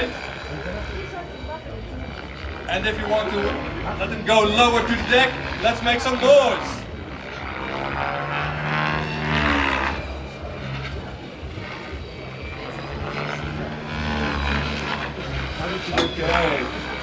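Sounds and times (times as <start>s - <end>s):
model helicopter flying: 0.0s - 17.0s.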